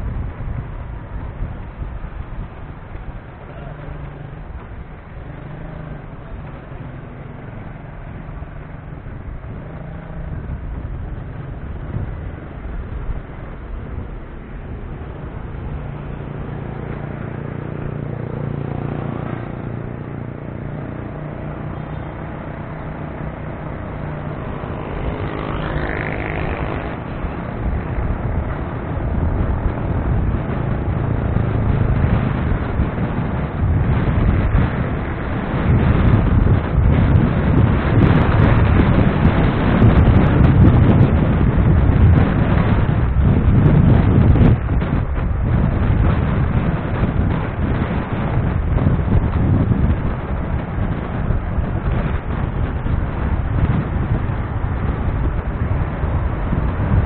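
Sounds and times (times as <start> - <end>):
motorcycle and car engines passing: 0.0 - 57.0
rumble of tyres: 0.0 - 57.0
wind on microphone: 0.0 - 57.0.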